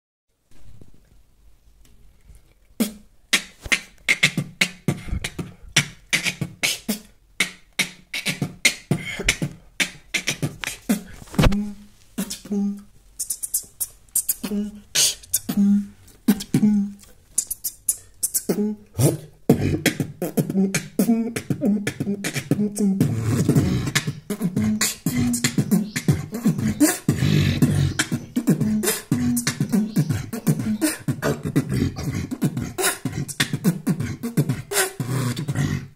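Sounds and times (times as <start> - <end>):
beatboxing: 2.8 - 35.9.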